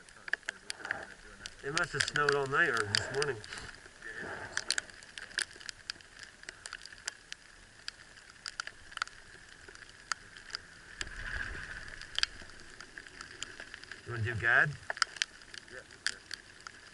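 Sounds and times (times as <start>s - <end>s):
faint steady hiss: 0.0s - 16.9s
sleet pellets ticking on clothing: 0.0s - 16.9s.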